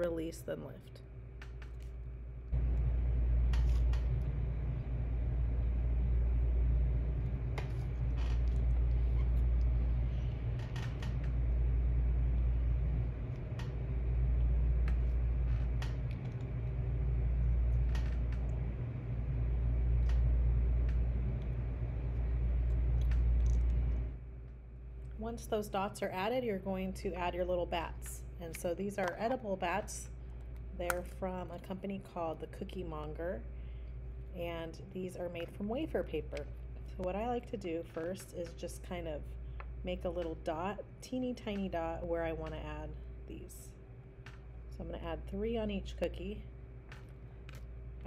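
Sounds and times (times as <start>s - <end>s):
low rumble: 1.0s - 46.9s.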